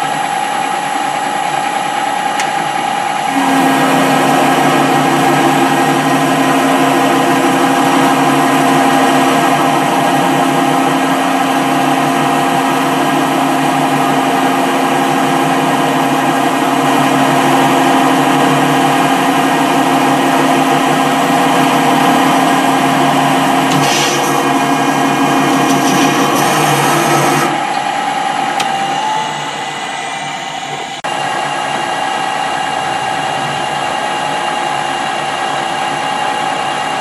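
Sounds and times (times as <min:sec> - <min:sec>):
metal lathe running with gear whine: 0:00.0 - 0:37.0.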